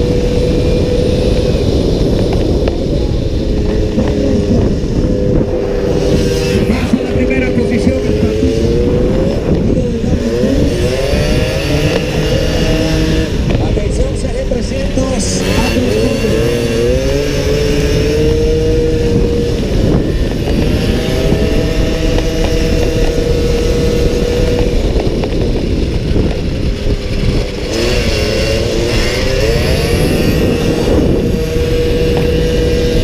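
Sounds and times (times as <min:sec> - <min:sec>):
racing motorcycle engine revving: 0:00.0 - 0:33.0
wind rushing over microphone: 0:00.0 - 0:33.0.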